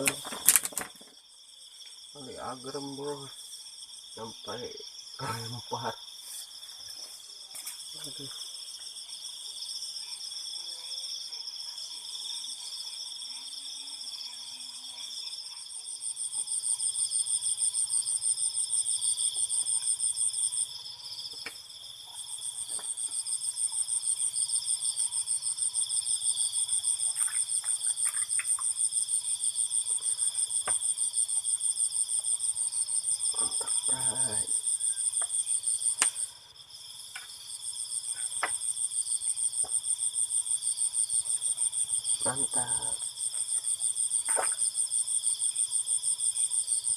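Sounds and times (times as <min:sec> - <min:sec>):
insects chirring: 0:00.0 - 0:46.9
loud fast-pulsing insect trill: 0:00.0 - 0:46.9.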